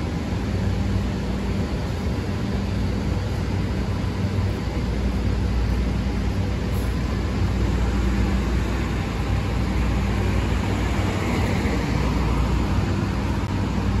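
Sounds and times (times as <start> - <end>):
bus engine running: 0.0 - 14.0
street traffic hiss: 0.0 - 14.0.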